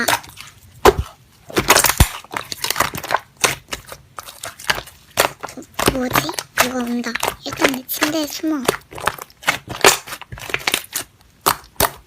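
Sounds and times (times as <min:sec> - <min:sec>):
slime squeezed by hand crackling: 0:00.0 - 0:12.0.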